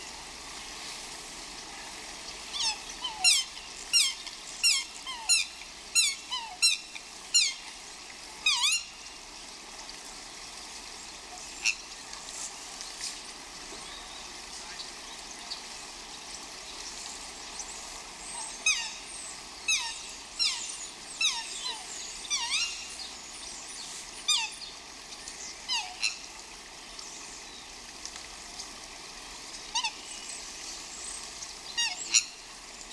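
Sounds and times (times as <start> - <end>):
steady hiss: 0.0 - 32.9.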